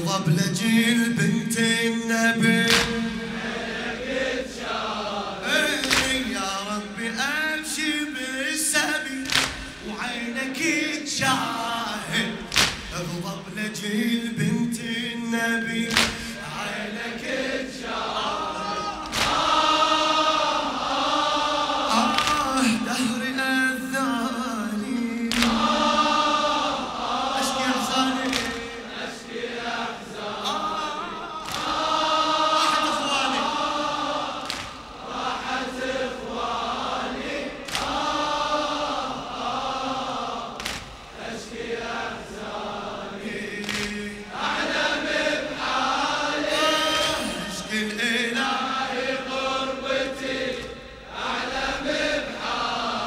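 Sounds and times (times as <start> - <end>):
men chanting in unison: 0.0 - 53.0.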